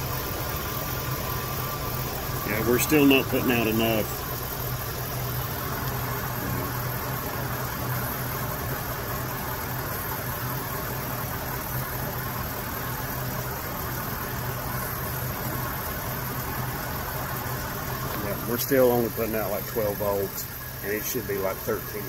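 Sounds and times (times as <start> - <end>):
pickup engine idling: 0.0 - 22.0.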